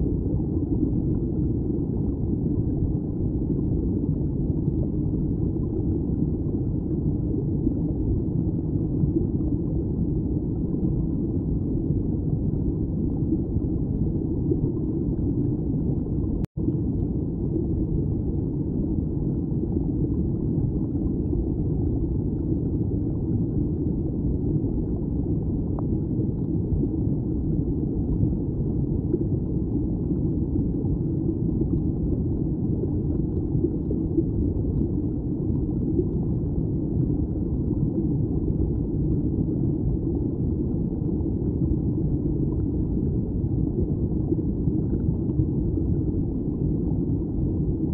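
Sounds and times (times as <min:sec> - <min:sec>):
underwater stream rumble: 0:00.0 - 0:47.9.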